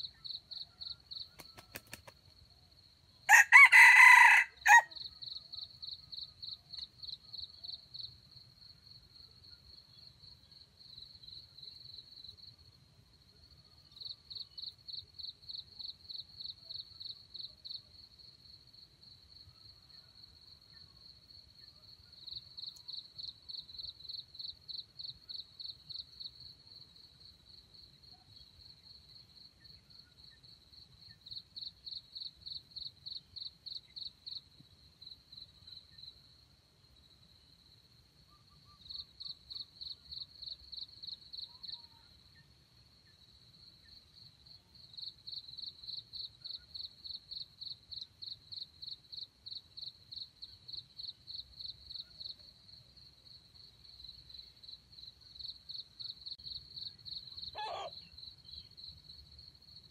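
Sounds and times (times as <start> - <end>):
faint continuous insect trill: 0.0 - 59.9
insect chirping: 0.0 - 59.9.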